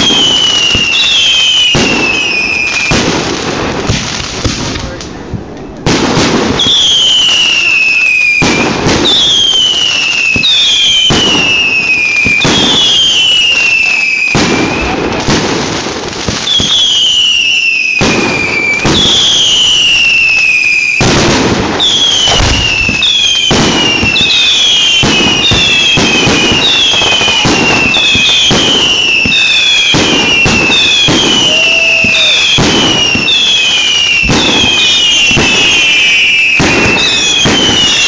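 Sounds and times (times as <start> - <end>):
firework whistles falling in pitch: 0.0 - 3.1, 6.5 - 15.2, 16.3 - 38.0
firework crackling: 0.0 - 38.0
firework pops: 2.8 - 17.1, 18.0 - 38.0.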